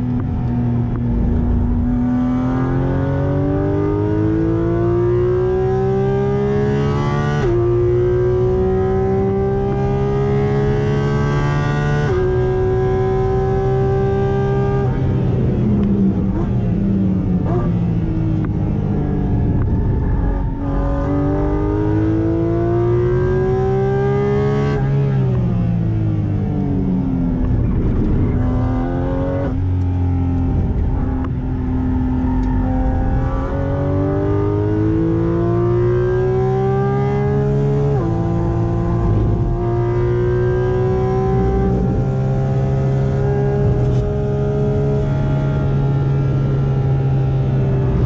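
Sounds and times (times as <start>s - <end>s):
car engine revving through gears: 0.0s - 48.0s.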